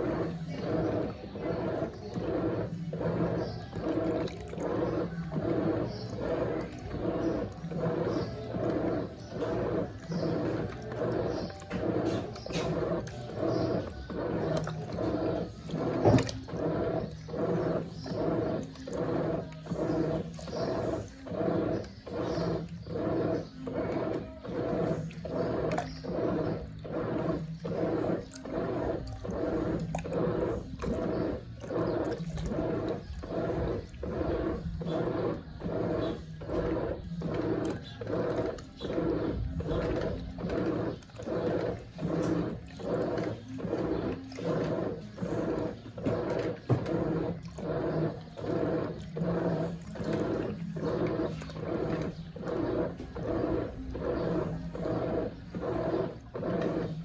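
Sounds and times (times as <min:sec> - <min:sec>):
washing machine motor hum: 0:00.0 - 0:57.0
washing machine water churning: 0:00.0 - 0:57.0.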